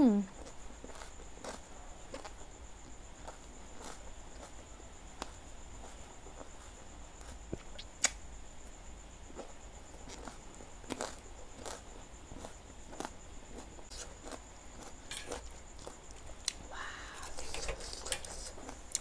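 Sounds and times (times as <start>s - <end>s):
faint high-pitched whine: 0.0s - 19.0s
person chewing noodles: 0.3s - 7.9s, 9.3s - 19.0s.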